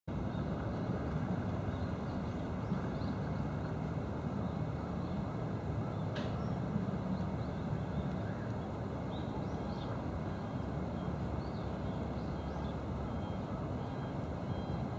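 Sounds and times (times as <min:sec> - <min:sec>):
low outdoor rumble: 0:00.1 - 0:14.9.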